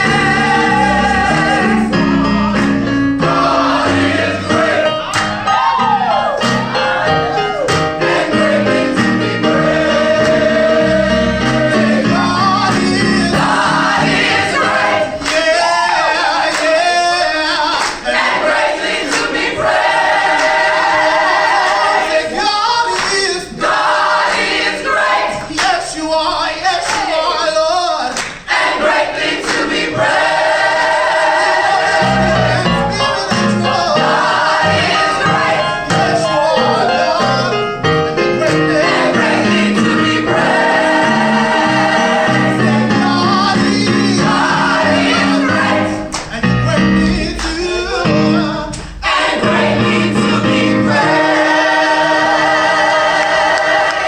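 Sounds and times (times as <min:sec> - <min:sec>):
group gospel singing: 0:00.0 - 0:54.0.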